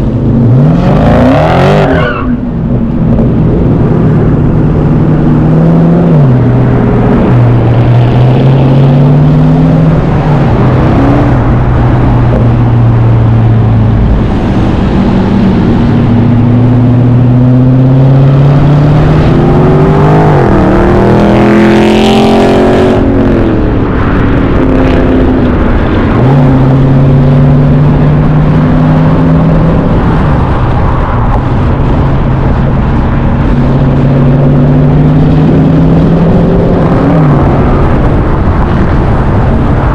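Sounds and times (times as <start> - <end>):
car engine changing pitch: 0.0 - 39.9.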